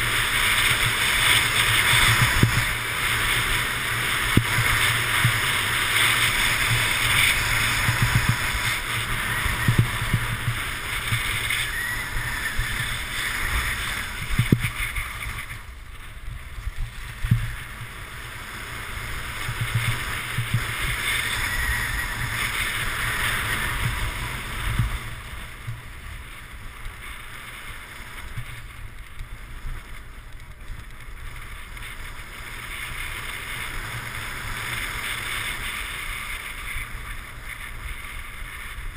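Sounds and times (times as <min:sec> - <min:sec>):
skis scraping over snow: 0:00.0 - 0:38.9
wind rumbling on microphone: 0:00.0 - 0:38.9.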